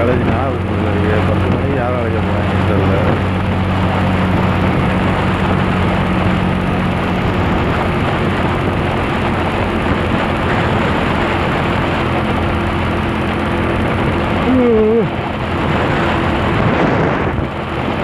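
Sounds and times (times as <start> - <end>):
motorcycle engine hum: 0.0 - 18.0
wind noise on microphone: 0.0 - 18.0.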